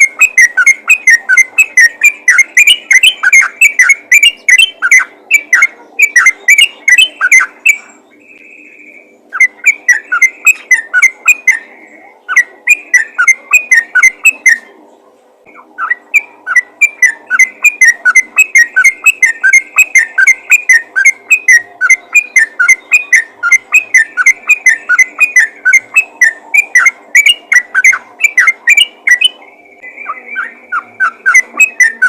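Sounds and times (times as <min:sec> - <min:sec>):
bird calling bubbly whistled notes: 0:00.0 - 0:14.6, 0:15.5 - 0:32.0.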